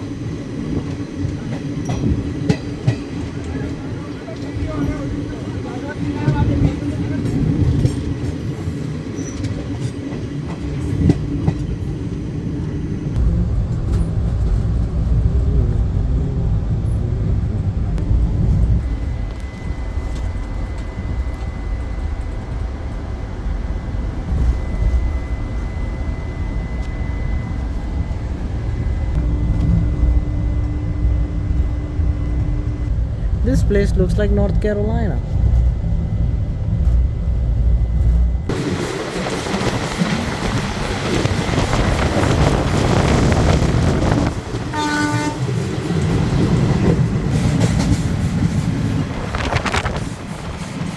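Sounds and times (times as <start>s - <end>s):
train rumbling along track: 0.0s - 50.9s.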